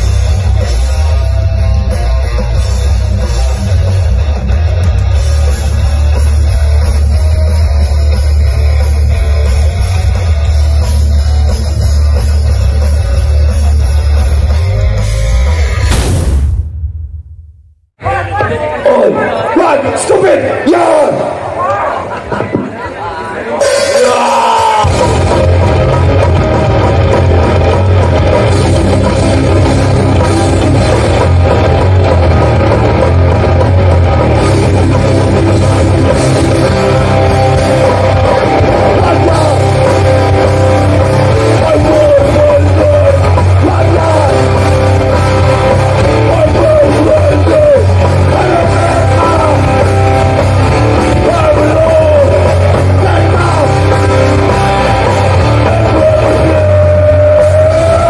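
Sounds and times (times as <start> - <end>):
punk band playing: 0.0 - 16.4, 18.0 - 58.0
bass guitar: 0.0 - 18.7, 23.6 - 58.0
distorted guitars: 0.0 - 58.0
drums: 0.0 - 58.0.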